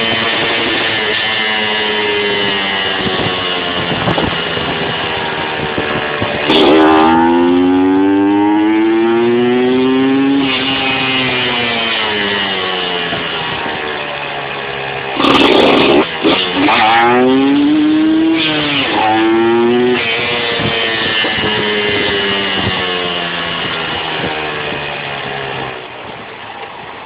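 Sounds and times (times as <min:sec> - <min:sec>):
two-stroke engine revving: 0:00.0 - 0:26.1.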